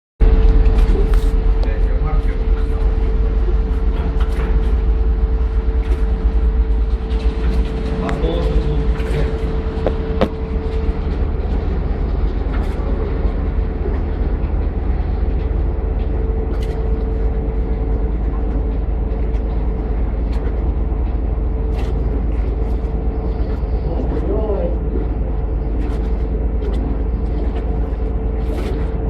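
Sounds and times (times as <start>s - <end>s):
boat engine rumbling: 0.2s - 29.0s.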